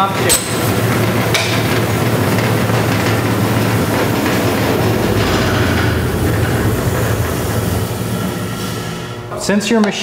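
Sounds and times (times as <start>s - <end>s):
bandsaw motor hum and whir: 0.0s - 9.3s.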